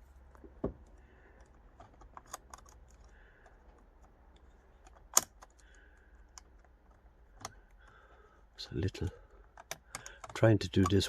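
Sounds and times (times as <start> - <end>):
plastic connector clicks and rattles: 0.3 - 7.9, 9.0 - 11.0.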